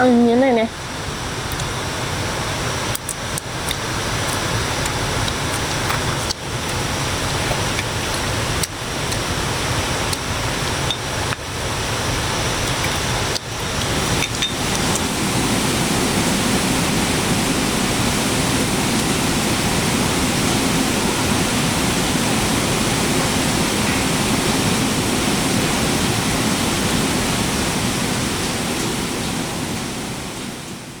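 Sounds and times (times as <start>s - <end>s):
water rushing: 0.7s - 31.0s.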